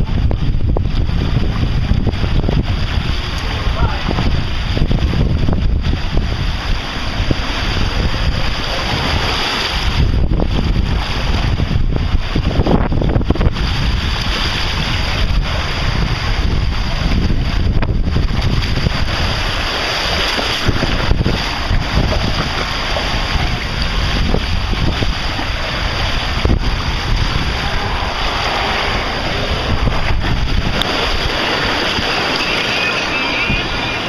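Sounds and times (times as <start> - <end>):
water rushing down a slide: 0.0 - 34.0
wind buffeting on microphone: 0.0 - 34.0.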